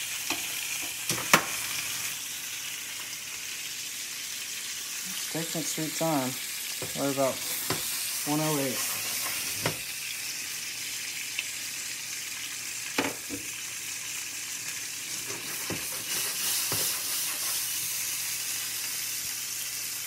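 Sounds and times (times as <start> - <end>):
steak sizzling in a skillet: 0.0 - 20.0.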